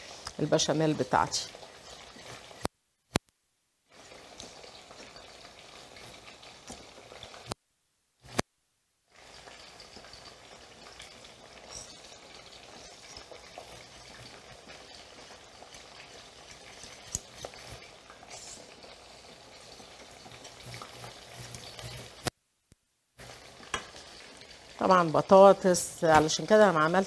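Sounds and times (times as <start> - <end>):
slices sizzling in oil: 0.0 - 3.2, 3.9 - 7.6, 8.2 - 8.4, 9.1 - 22.4, 23.2 - 27.0.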